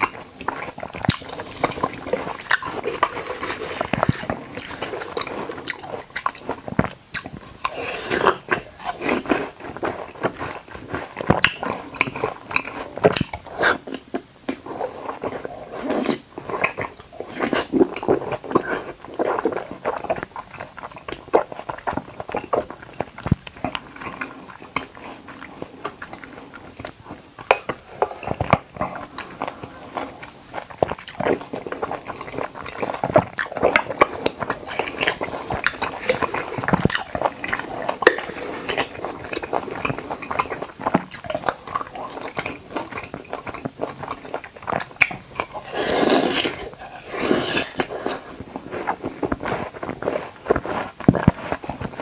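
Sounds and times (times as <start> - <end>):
biting and chewing soft food: 0.0 - 52.0.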